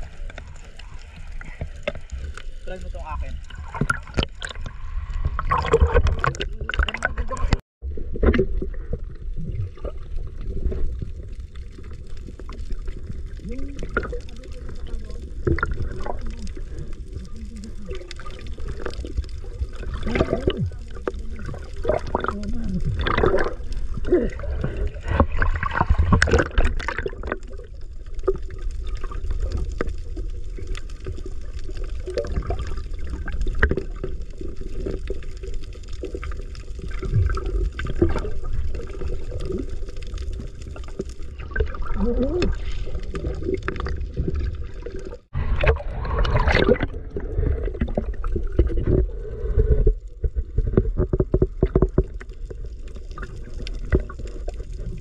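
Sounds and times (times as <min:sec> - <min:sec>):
bubbling and gurgling: 0:00.0 - 0:55.0
low underwater rumble: 0:00.0 - 0:55.0
underwater clicks and crackles: 0:00.0 - 0:55.0.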